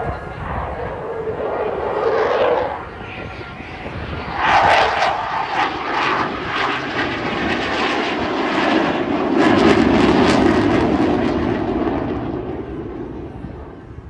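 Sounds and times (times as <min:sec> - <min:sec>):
aircraft flying past: 0:00.0 - 0:14.0.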